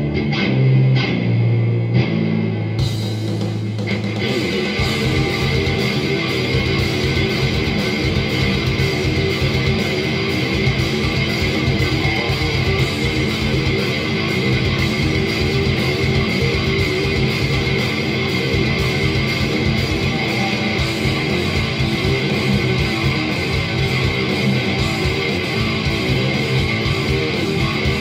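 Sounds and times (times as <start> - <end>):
electric guitar metal riff: 0.0 - 28.0.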